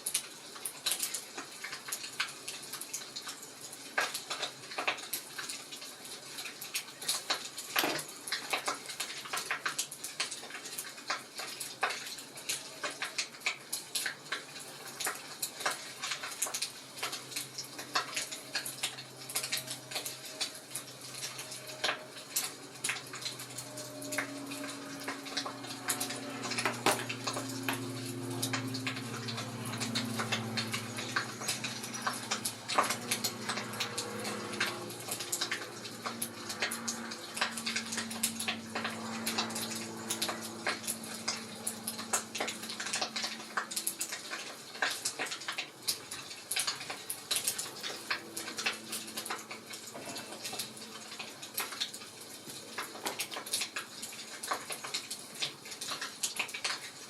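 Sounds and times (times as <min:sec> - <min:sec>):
fireplace crackling: 0:11.1 - 0:56.9.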